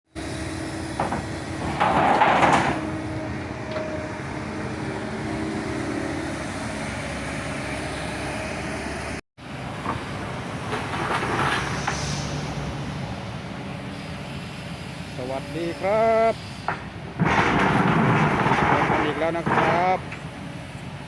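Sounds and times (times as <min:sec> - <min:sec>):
excavator diesel engine running: 0:00.1 - 0:21.0.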